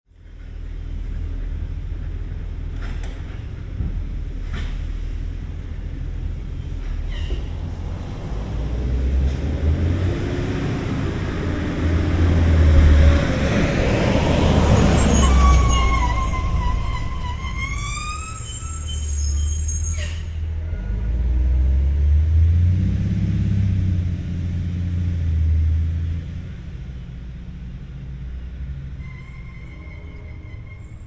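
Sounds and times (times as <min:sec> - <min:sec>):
bus engine running: 0:00.1 - 0:31.0.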